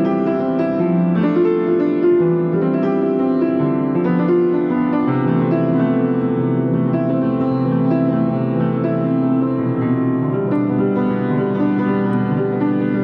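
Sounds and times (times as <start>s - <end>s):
solo piano piece: 0.0s - 13.0s.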